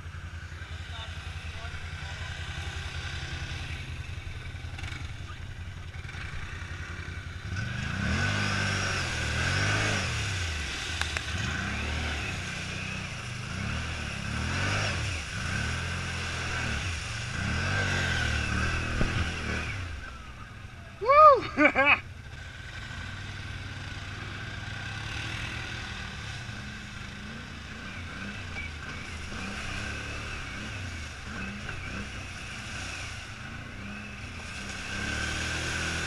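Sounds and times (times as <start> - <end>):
quad churning through mud: 0.0 - 20.9, 21.5 - 36.0
atv engine revving: 0.0 - 36.0.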